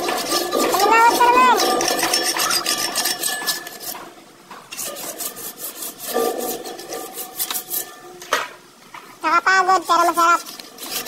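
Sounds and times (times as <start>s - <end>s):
rapid scraping on metal fence: 0.0s - 8.4s, 9.6s - 11.0s.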